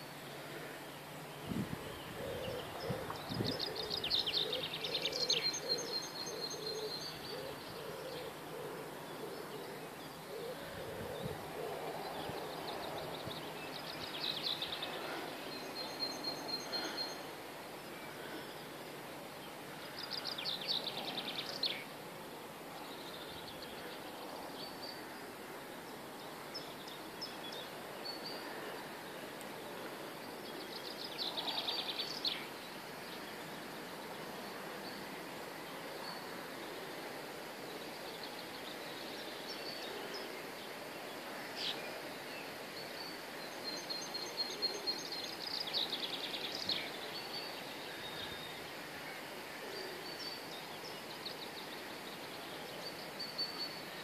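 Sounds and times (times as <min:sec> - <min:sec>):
outdoor background noise: 0:00.0 - 0:54.0
songbirds singing: 0:00.0 - 0:54.0.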